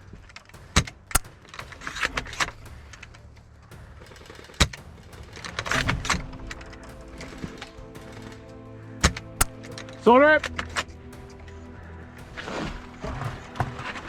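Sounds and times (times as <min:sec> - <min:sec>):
rapid ticking: 0:00.0 - 0:14.0.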